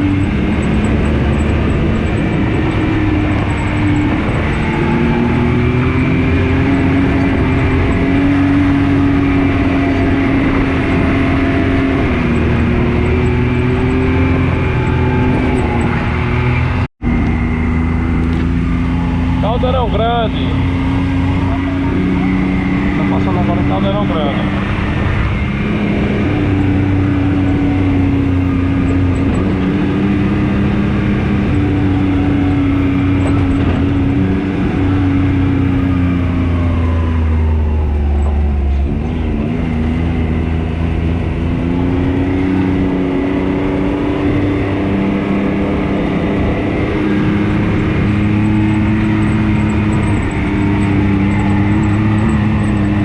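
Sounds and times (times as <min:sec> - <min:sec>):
wind noise: 0:00.0 - 0:19.4, 0:21.0 - 0:53.0
engine running: 0:00.0 - 0:53.0
road noise: 0:00.0 - 0:53.0.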